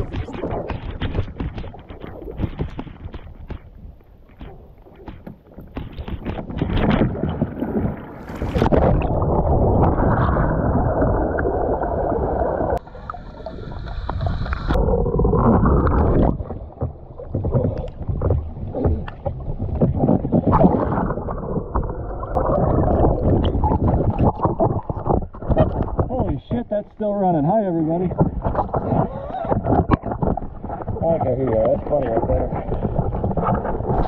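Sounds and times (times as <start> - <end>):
churning sloshing water: 0.0 - 34.0.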